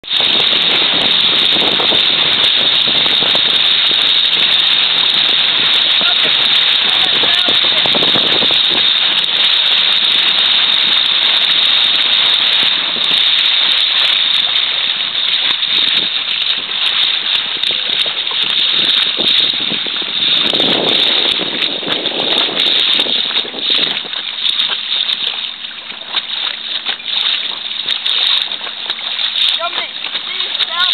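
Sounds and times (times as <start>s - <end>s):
water rushing past boat: 0.0s - 30.9s
wind: 0.0s - 30.9s.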